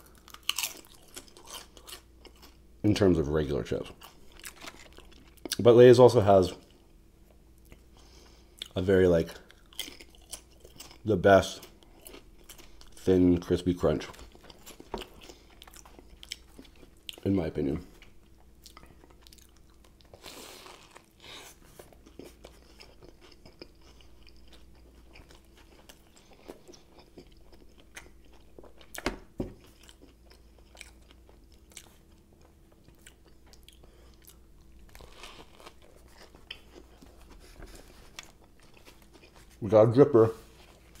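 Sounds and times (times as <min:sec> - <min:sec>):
person chewing food: 0:00.0 - 0:02.7, 0:03.8 - 0:05.6, 0:06.6 - 0:08.8, 0:09.4 - 0:13.1, 0:14.0 - 0:17.3, 0:17.9 - 0:39.6.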